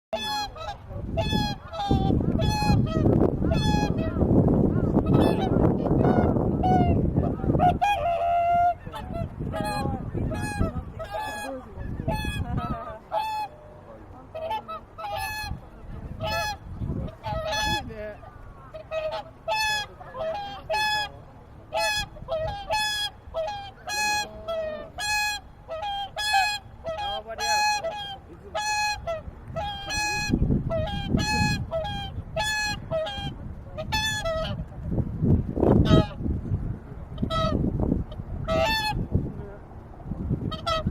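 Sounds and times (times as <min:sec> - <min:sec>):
swans honking: 0:00.1 - 0:35.0, 0:35.6 - 0:36.3, 0:37.0 - 0:39.3, 0:40.1 - 0:40.9
low rumbling noise: 0:00.2 - 0:40.9.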